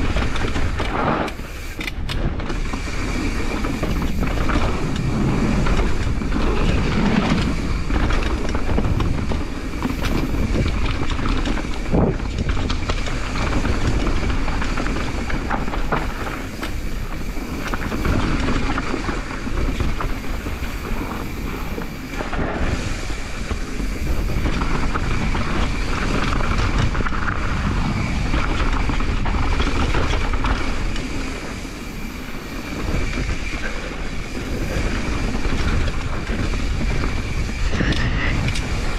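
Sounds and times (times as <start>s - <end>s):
bike rattling over rough ground: 0.0s - 38.9s.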